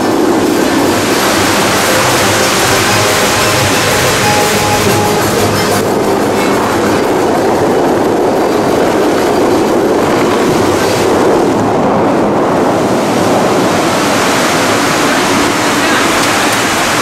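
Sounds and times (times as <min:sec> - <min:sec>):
fountain water crashing: 0:00.0 - 0:11.3, 0:13.1 - 0:17.0.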